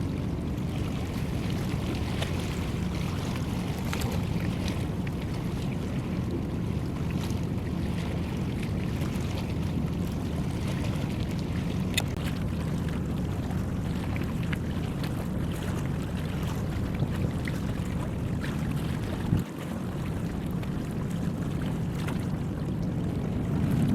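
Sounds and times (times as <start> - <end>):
boat engine rumbling: 0.0 - 23.9.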